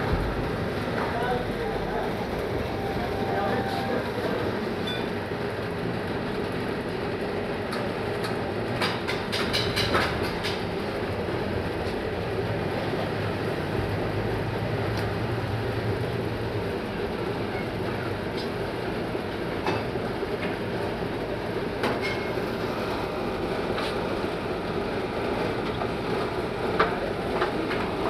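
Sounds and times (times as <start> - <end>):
ice cream machine motor hum: 0.0 - 28.0.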